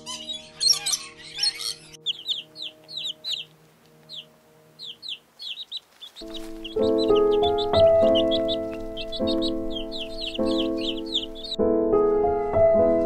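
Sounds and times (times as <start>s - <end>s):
animal squawking chatter: 0.0s - 3.5s, 4.1s - 11.6s
chicks peeping: 0.0s - 11.6s
soft background music: 0.0s - 13.0s.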